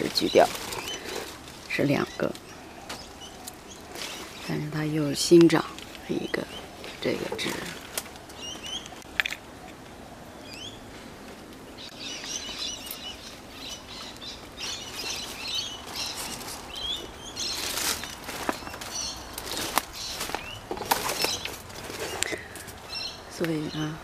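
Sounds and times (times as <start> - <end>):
leaves and twigs crackling: 0.0 - 24.0
small birds chirping: 0.0 - 24.0.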